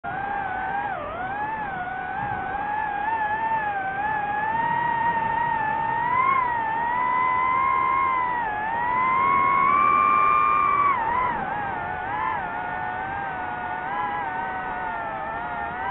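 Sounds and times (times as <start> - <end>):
drone propellers whining: 0.0 - 15.9.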